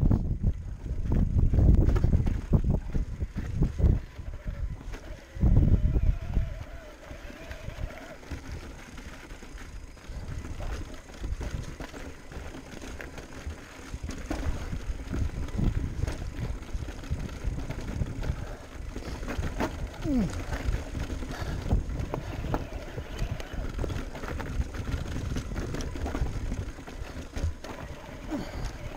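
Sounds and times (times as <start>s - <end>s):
bike knocks and rattles: 0.0s - 4.1s, 8.2s - 28.9s
wind on microphone: 0.0s - 8.6s, 13.9s - 28.9s
bike tyres rumbling on trail: 0.0s - 28.9s.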